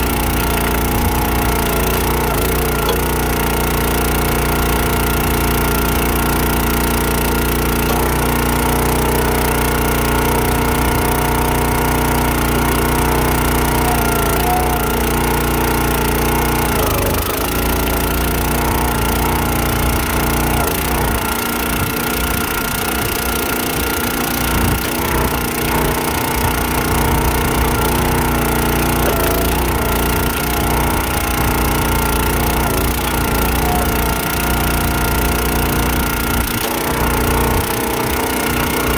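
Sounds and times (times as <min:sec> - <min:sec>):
log splitter engine running: 0:00.0 - 0:38.9.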